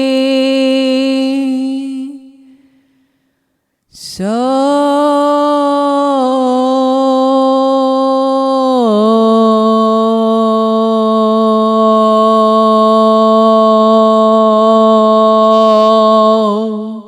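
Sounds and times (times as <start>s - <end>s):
voice chanting a long tone: 0.0s - 3.2s, 3.9s - 17.0s.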